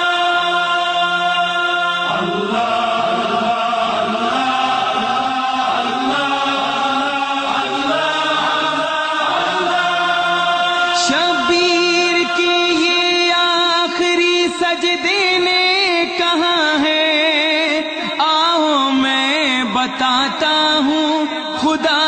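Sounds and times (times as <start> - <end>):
wordless devotional chanting: 0.0 - 22.0.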